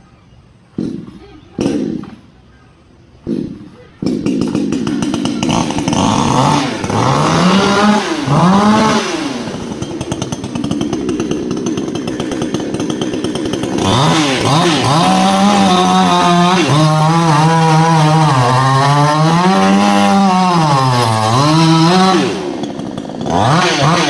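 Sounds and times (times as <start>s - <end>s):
chainsaw engine revving: 0.7s - 2.3s, 3.2s - 24.0s.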